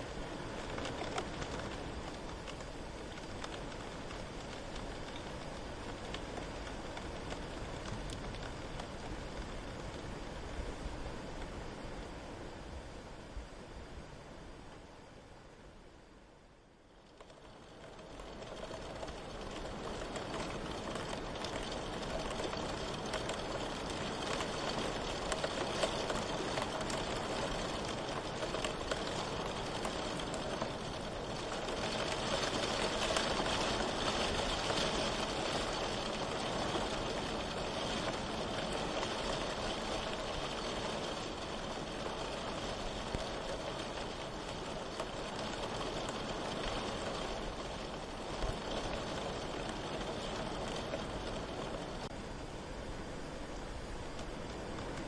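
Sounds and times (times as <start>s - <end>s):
rain pattering: 0.0s - 13.4s, 16.4s - 55.0s.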